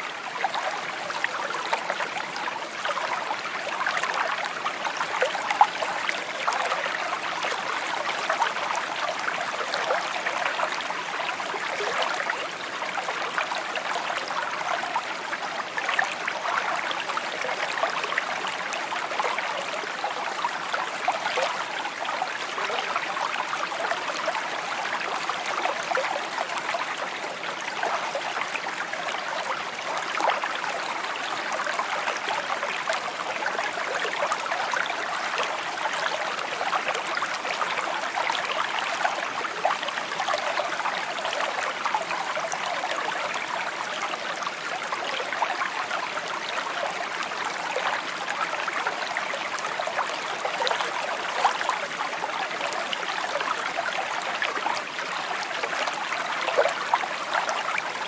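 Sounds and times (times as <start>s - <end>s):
creek babbling: 0.0s - 58.0s.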